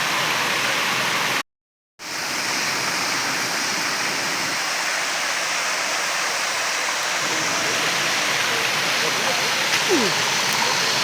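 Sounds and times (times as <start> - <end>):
waterfall rushing: 2.1 - 11.0.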